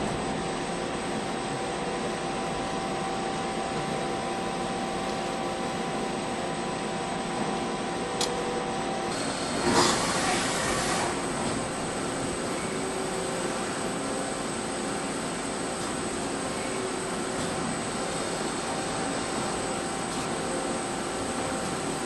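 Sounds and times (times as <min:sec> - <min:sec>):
machine mechanical hum: 0:00.0 - 0:22.0.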